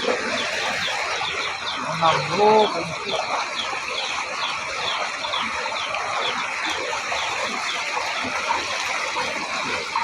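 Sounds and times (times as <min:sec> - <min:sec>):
heavy rain and floodwater rushing: 0:00.0 - 0:10.0.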